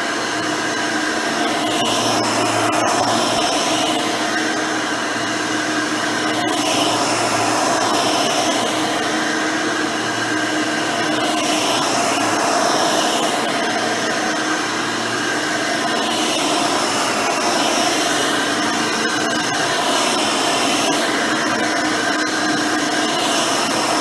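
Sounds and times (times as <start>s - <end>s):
upright vacuum running: 0.0s - 24.0s.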